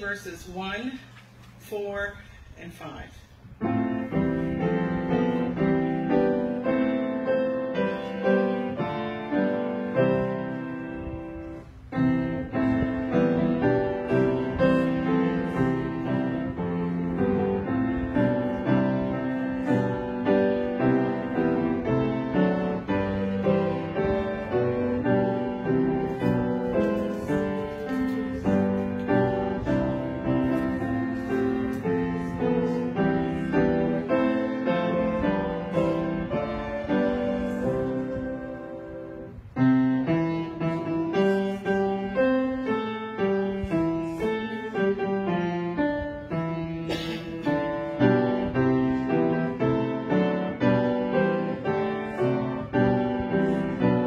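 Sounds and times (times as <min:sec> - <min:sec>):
piano playing hymn chords: 0:02.1 - 0:54.0.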